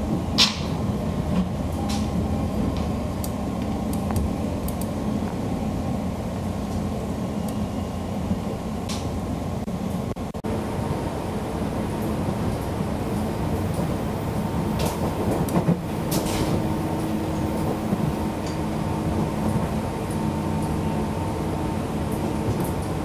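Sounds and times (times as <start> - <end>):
train cabin rumble and hum: 0.0 - 23.0.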